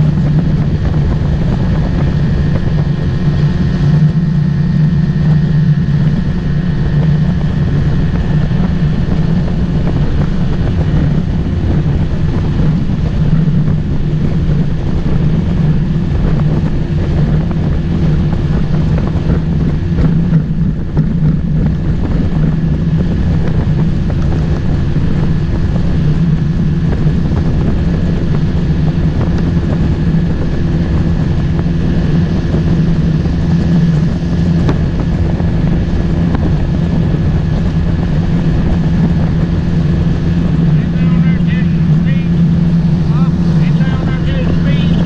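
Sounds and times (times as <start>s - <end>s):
motorboat engine drone: 0.0s - 45.0s
wind buffeting microphone: 0.0s - 45.0s.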